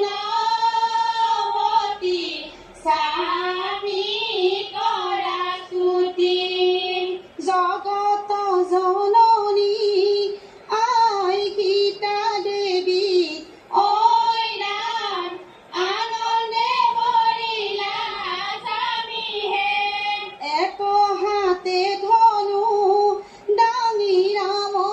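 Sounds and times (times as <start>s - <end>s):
women singing through tv speaker: 0.0s - 24.9s.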